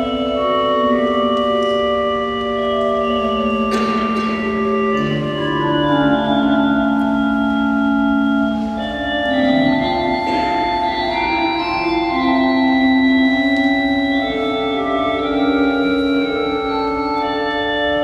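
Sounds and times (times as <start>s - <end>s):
pipe organ playing: 0.0s - 18.0s.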